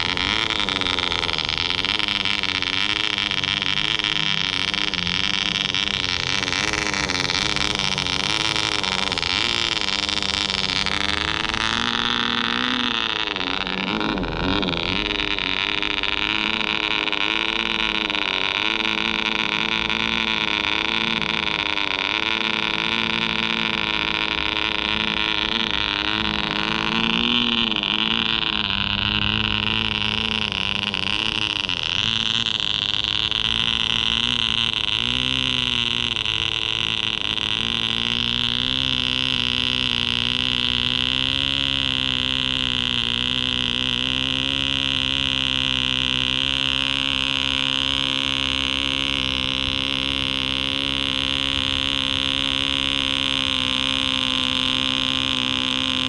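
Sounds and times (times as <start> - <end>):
model aircraft engine running: 0.0 - 56.0.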